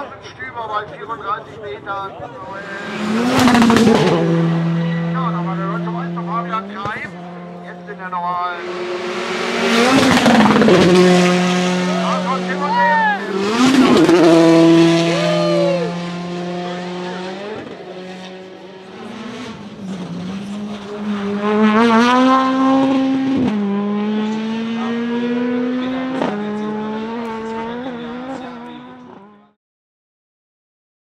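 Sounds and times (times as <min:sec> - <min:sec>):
rally car engines revving past: 0:02.2 - 0:29.5.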